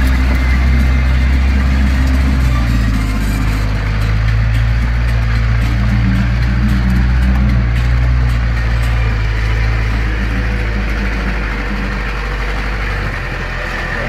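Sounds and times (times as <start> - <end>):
car engine running at low revs: 0.0 - 14.0.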